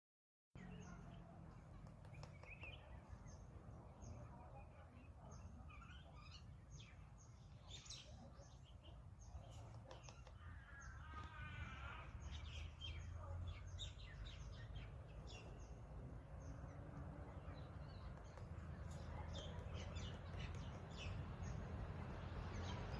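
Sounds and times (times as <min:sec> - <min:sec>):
small birds chirping: 0:00.6 - 0:22.9.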